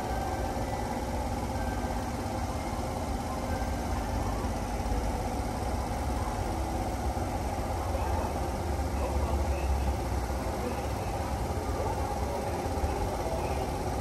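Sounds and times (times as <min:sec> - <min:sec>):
electric train equipment humming: 0:00.0 - 0:14.0
faint steady tones: 0:00.0 - 0:14.0.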